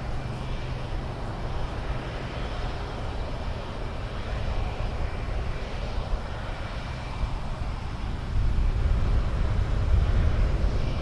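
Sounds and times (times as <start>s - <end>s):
combine harvester and tractor rumble: 0.0s - 11.0s.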